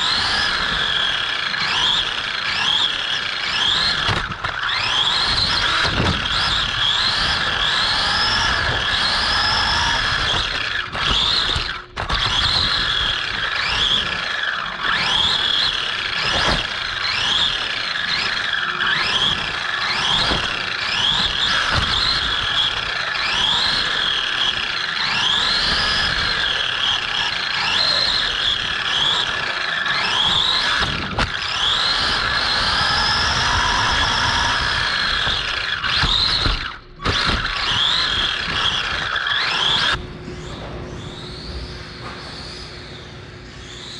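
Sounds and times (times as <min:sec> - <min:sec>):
electric toy car motor whining: 0:00.0 - 0:41.4.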